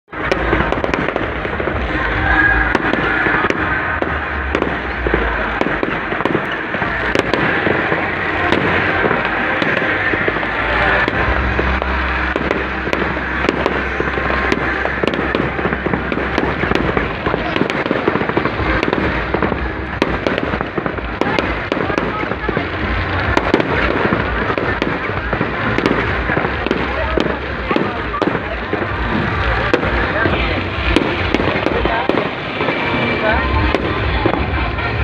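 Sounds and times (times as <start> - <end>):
fireworks pops and crackles: 0.1 - 35.0
low rumble: 0.1 - 35.0.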